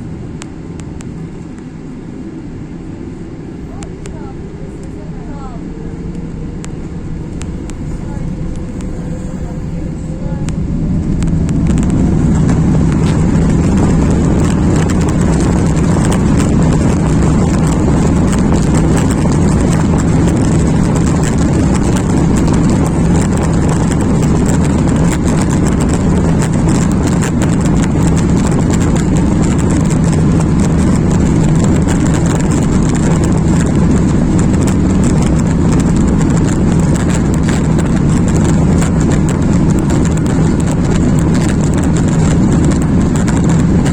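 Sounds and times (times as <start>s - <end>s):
jet engines roaring: 0.0s - 43.9s.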